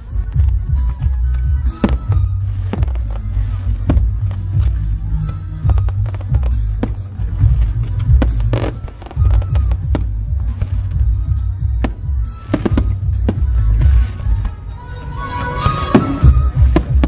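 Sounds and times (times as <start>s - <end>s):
fireworks bangs: 0.0s - 14.6s, 15.4s - 17.0s
loud music with heavy bass: 0.0s - 17.0s.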